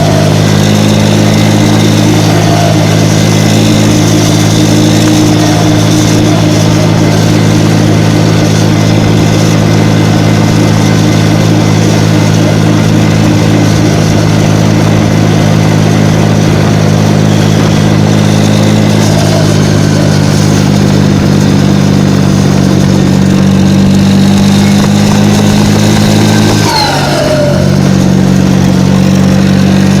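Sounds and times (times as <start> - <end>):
tractor diesel engine running: 0.0 - 30.0
turbo whistling: 0.0 - 30.0.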